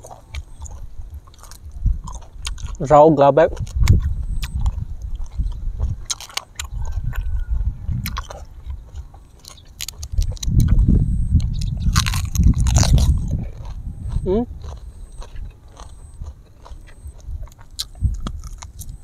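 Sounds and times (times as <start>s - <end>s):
cabbage leaf being chewed: 0.0s - 19.0s
chewing and mouth clicks: 0.0s - 19.0s.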